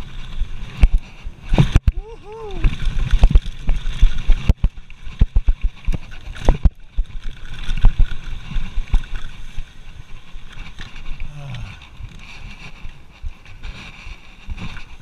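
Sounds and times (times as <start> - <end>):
bike knocks and rattles: 0.0 - 15.0
bike tyres rolling rumble: 0.0 - 15.0.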